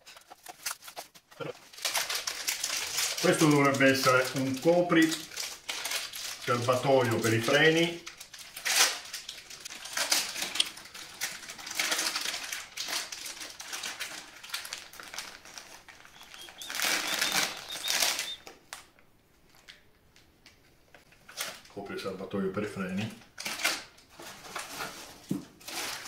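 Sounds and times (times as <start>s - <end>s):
plastic bag crinkling: 0.0s - 19.9s, 23.3s - 26.0s.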